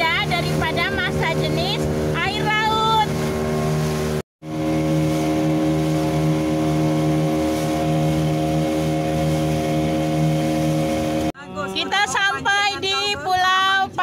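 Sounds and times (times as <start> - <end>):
speedboat engine running: 0.0 - 14.0.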